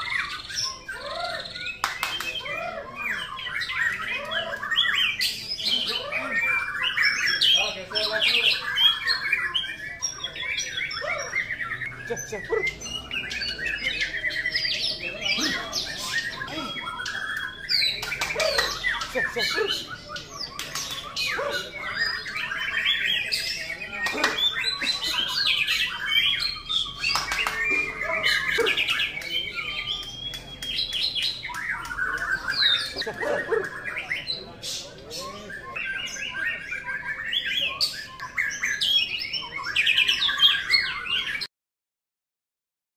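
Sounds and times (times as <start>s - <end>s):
songbirds singing: 0.0s - 41.5s.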